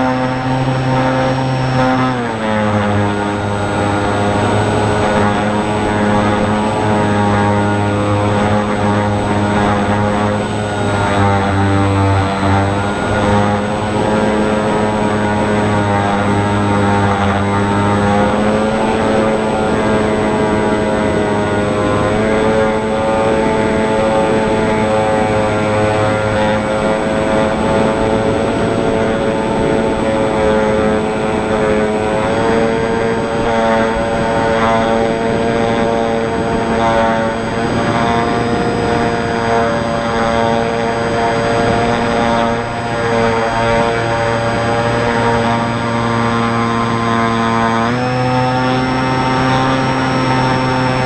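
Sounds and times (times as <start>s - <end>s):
model aircraft motor and propeller: 0.0s - 51.0s.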